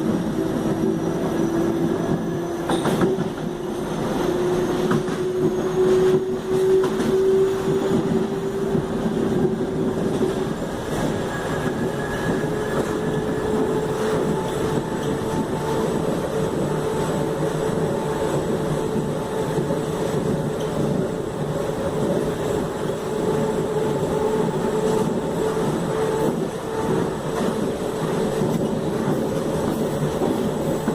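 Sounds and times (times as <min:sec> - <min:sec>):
rumble of running train: 0:00.0 - 0:30.9.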